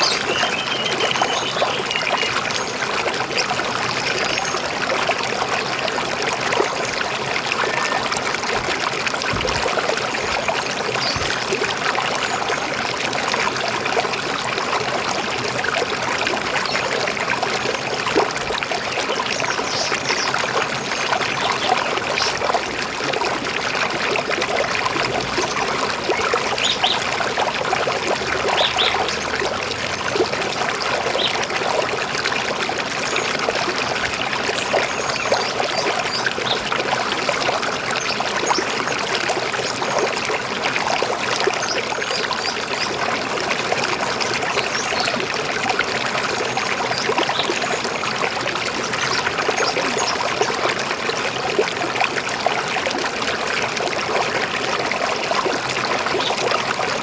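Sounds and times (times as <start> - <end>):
river trickling and babbling: 0.0 - 57.0.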